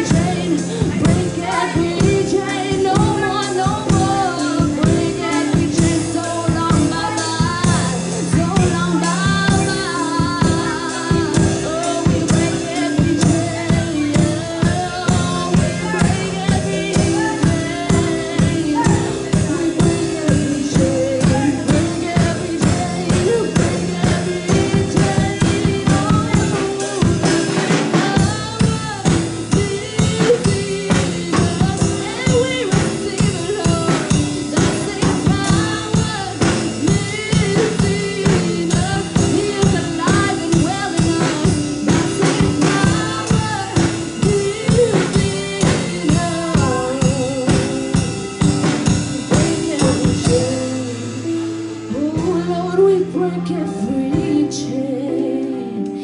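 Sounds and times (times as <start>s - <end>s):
drum kit beat: 0.0s - 54.8s
electronic keyboard: 0.0s - 56.0s
woman singing worship song: 0.0s - 56.0s.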